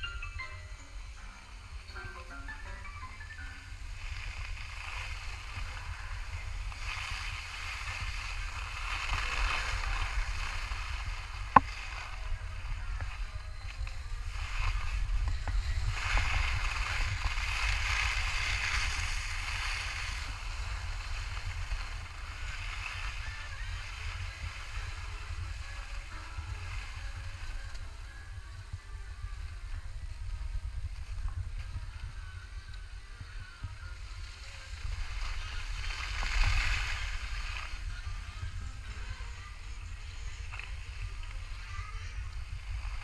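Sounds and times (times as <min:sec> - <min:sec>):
wind on microphone: 0:00.0 - 0:43.0
skis scraping over snow: 0:01.4 - 0:43.0.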